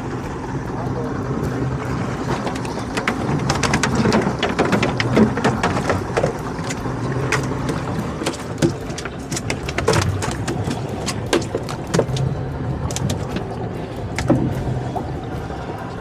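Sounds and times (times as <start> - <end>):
outboard motor humming: 0.0 - 16.0.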